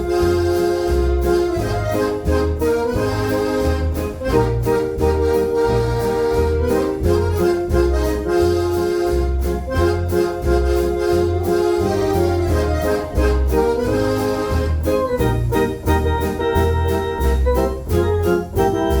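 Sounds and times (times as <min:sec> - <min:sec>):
electronic organ playing foxtrot: 0:00.0 - 0:19.0.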